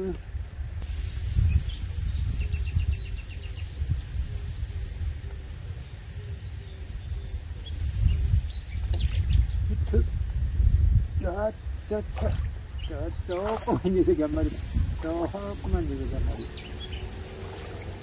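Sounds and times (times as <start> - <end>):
small birds chirping: 0.0 - 18.0
wind rumbling on microphone: 0.0 - 18.0.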